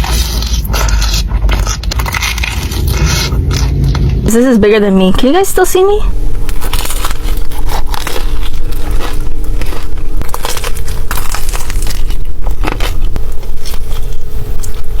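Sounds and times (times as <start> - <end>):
chewing crunchy pizza: 0.0 - 4.2, 6.2 - 15.0
steady low rumble: 0.0 - 15.0.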